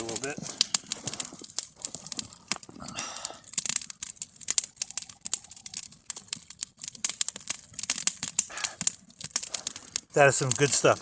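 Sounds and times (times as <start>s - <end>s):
campfire crackling and snapping: 0.0s - 11.0s.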